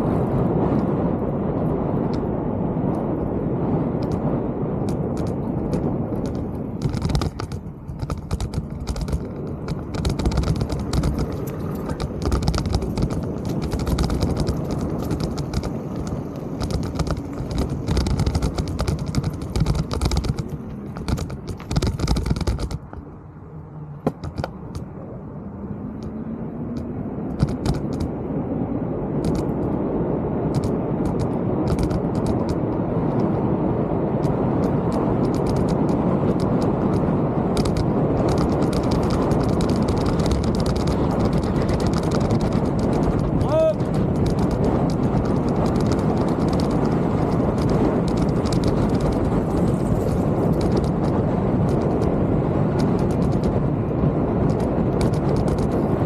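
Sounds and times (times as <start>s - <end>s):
bike tyres crunching on dirt: 0.0s - 23.2s, 30.5s - 56.0s
bike rattling and clicking: 0.0s - 56.0s
rushing of tyres and wind: 0.0s - 56.0s.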